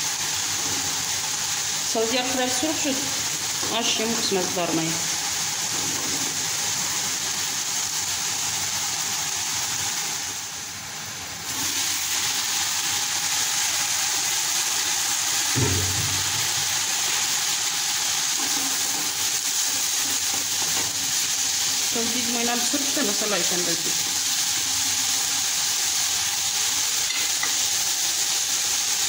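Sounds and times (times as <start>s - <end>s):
greens sizzling in oil: 0.0s - 29.0s.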